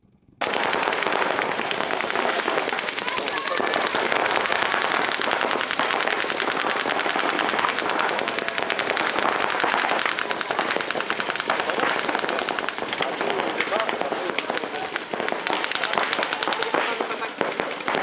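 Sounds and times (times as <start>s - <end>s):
paintball markers firing: 0.4s - 18.0s.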